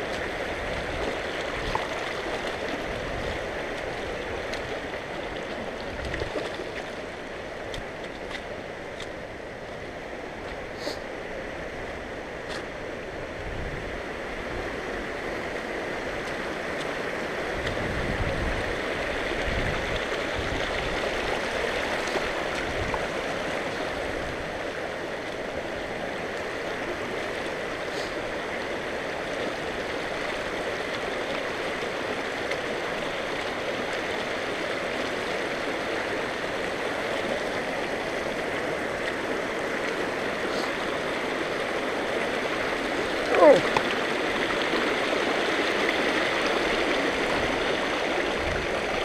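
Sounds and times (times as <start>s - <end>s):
creek rushing over stones: 0.0s - 49.0s.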